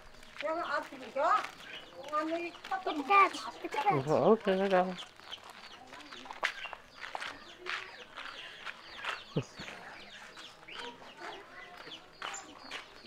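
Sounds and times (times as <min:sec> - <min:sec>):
birds chirping: 0:00.0 - 0:13.0
chickens clucking: 0:01.6 - 0:13.0.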